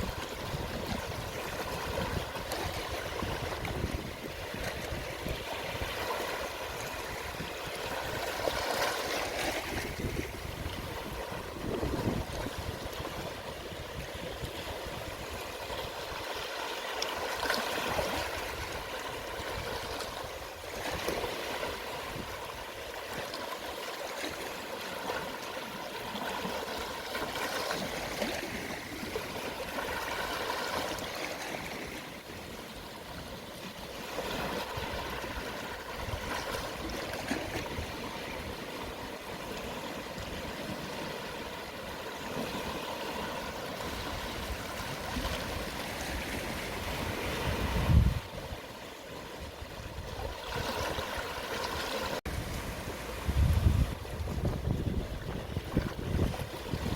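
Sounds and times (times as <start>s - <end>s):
sea waves lapping on shore: 0.0s - 56.9s.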